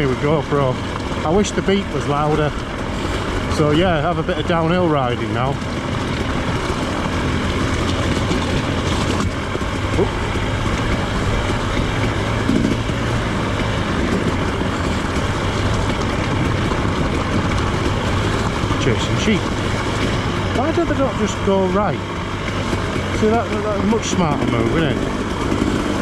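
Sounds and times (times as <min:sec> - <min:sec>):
motorcycle engine at low revs: 0:00.0 - 0:26.0
ride noise: 0:00.0 - 0:26.0.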